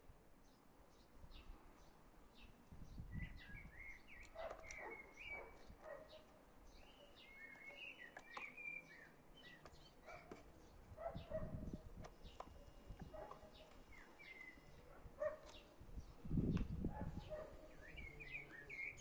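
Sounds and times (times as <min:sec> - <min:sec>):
birds chirping: 0:00.4 - 0:19.0.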